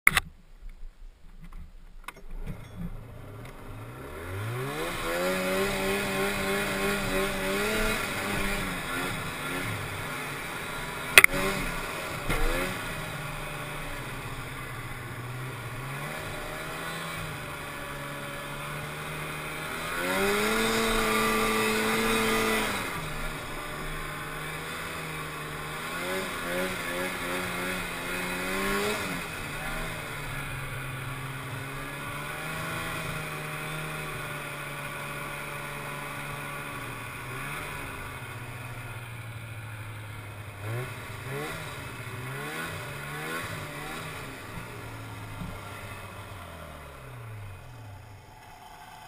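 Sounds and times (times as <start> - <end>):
snowmobile two-stroke engine: 2.1 - 49.0.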